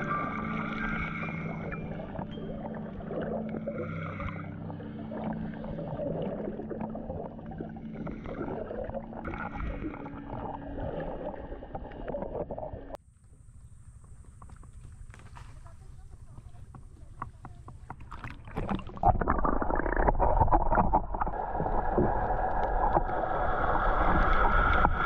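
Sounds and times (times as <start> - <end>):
water sloshing underwater: 0.0 - 25.0.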